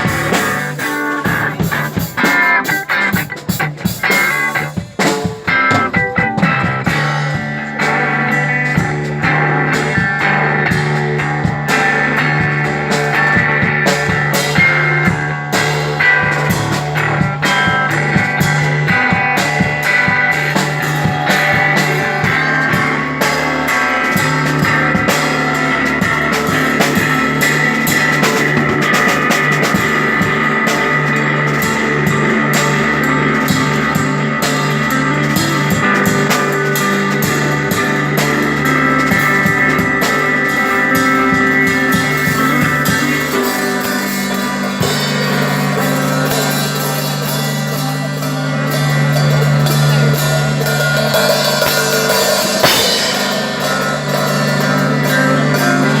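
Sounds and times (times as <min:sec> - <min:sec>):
drum kit playing: 0:00.0 - 0:56.0
electric guitar long notes: 0:00.0 - 0:56.0.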